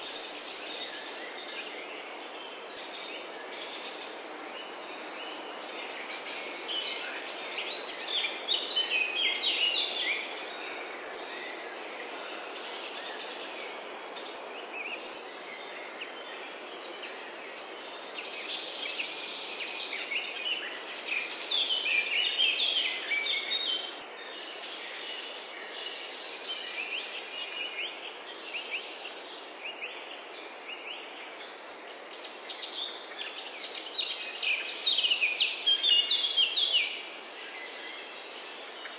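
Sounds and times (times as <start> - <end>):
songbirds singing: 0.0 - 38.9
steady background hiss: 0.0 - 38.9.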